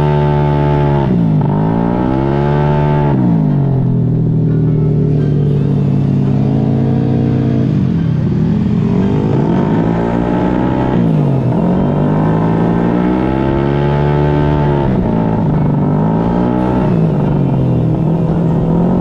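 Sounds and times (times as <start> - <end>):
scooter engine running hard: 0.0 - 19.0.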